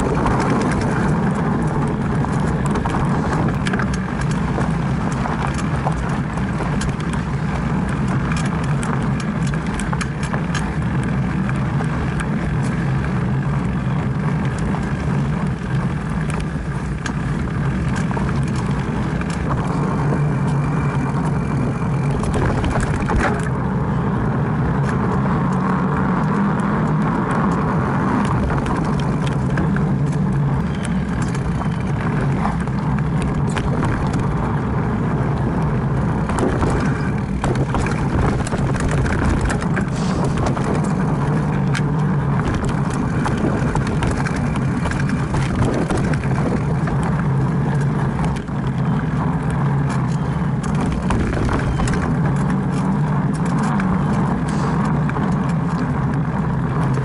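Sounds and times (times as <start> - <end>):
wind on microphone: 0.0 - 10.4, 11.8 - 25.4, 26.1 - 49.4, 50.3 - 57.0
bike clicks and rattles: 0.0 - 57.0
tyres rumbling on dirt trail: 0.0 - 57.0.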